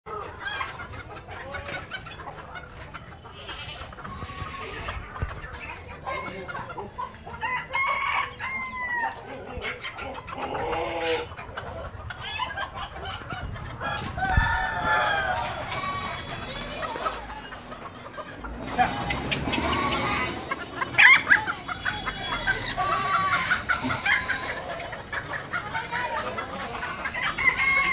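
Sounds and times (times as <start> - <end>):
chickens clucking: 0.1 - 27.9
roosters crowing: 0.1 - 27.9.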